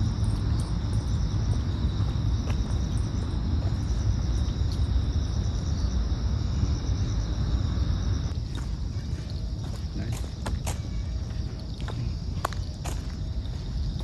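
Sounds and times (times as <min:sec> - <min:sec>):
insects chirping: 0:00.0 - 0:14.0
wind rumble on microphone: 0:00.0 - 0:14.0.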